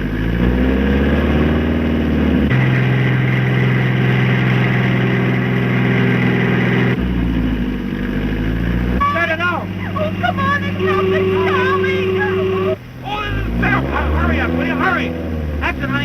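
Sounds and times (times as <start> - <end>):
motor vehicle engine running: 0.0 - 16.0.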